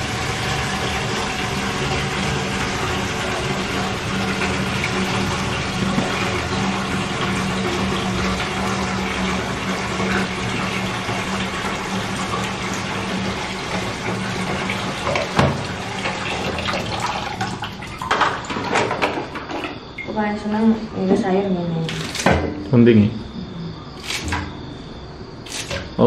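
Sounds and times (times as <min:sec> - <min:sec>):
running water: 0:00.0 - 0:20.5, 0:24.0 - 0:24.7.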